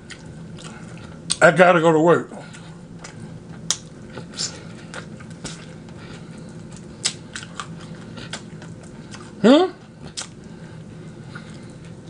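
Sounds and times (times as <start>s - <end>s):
chewing crunchy chicken wings: 0.0s - 1.4s, 2.3s - 12.0s
faint low hum: 0.0s - 12.0s.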